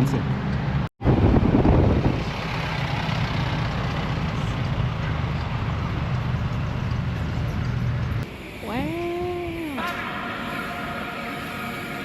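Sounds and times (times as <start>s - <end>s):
vehicle engine and road rumble: 0.0s - 10.1s.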